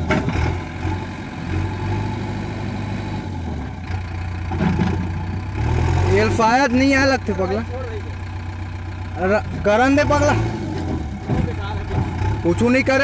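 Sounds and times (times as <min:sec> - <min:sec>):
diesel engine low drone: 0:00.0 - 0:13.0.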